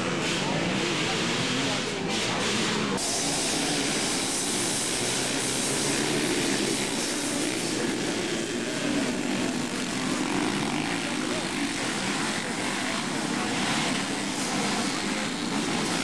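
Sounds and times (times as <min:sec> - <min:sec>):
racing engines at full throttle: 0:00.0 - 0:16.0.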